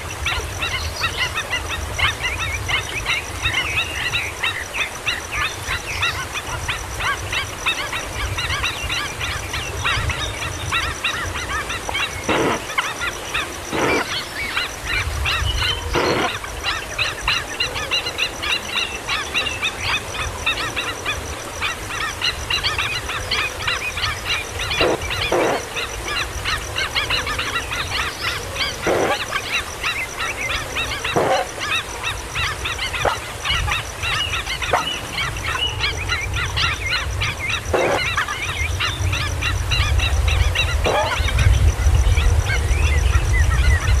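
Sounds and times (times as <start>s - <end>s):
harsh bird calls: 7.0s - 44.0s.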